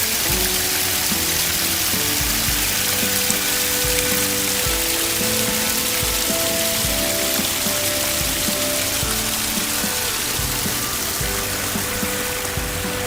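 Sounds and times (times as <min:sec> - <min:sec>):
music with slow bass beat: 0:00.0 - 0:13.0
waterfall splashing: 0:00.0 - 0:13.0.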